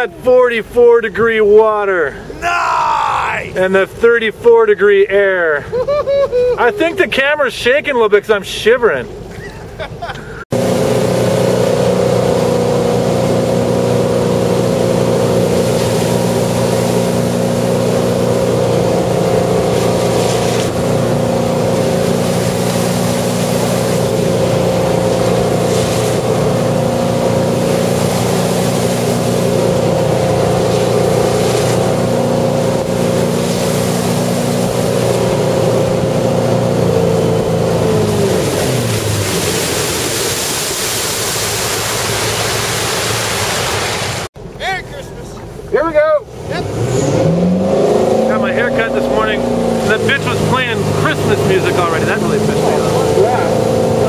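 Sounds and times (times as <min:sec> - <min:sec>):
boat engine running: 0:00.0 - 0:54.0
water rushing along hull: 0:00.0 - 0:54.0.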